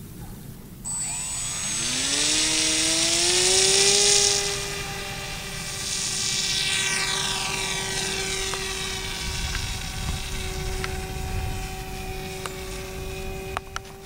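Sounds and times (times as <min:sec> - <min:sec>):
model airplane motor whine: 0:00.9 - 0:14.0.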